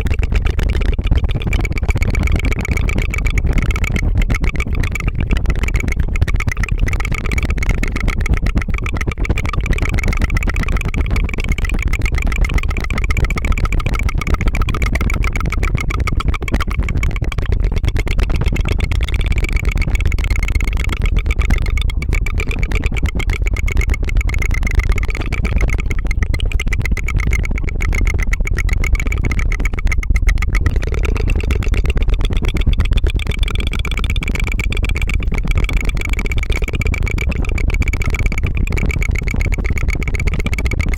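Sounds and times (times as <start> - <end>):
tongue fluttering trill: 0.0 - 40.9.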